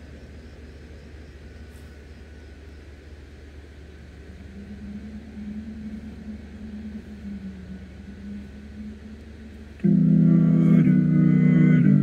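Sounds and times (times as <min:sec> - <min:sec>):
low outdoor rumble: 0:00.0 - 0:12.0
low steady hum: 0:00.0 - 0:12.0.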